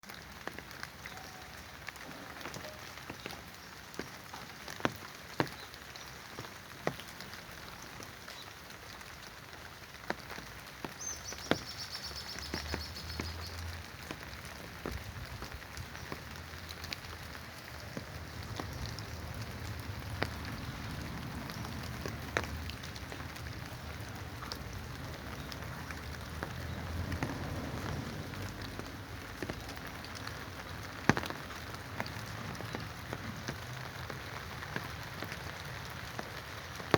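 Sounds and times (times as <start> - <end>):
rain falling steadily: 0.0 - 36.9.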